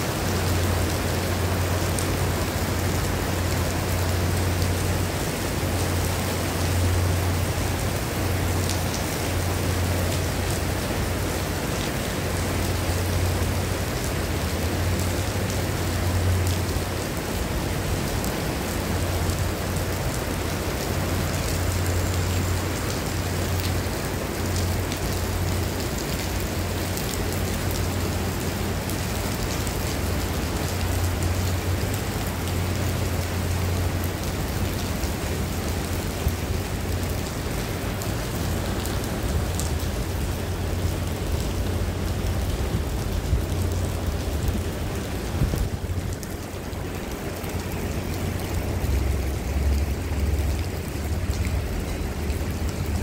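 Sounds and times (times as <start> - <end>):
heavy rain on paving and foliage: 0.0 - 53.0.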